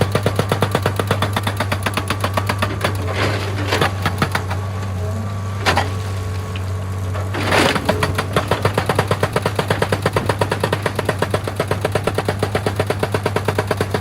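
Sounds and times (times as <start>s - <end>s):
hydraulic breaker hammering stone: 0.0s - 4.6s, 7.3s - 14.0s
diesel engine hum: 0.0s - 14.0s.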